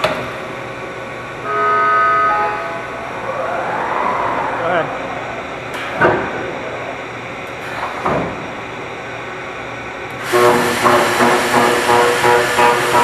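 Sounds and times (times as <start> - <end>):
pulsing machine hum: 0.5 - 7.7, 8.3 - 13.0.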